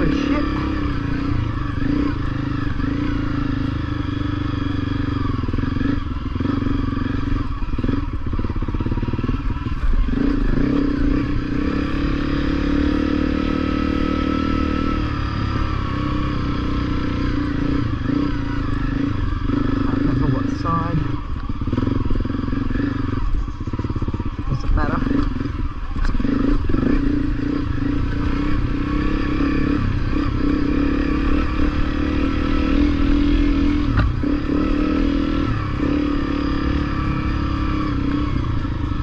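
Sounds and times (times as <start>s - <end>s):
motorcycle engine at low revs: 0.0s - 39.0s.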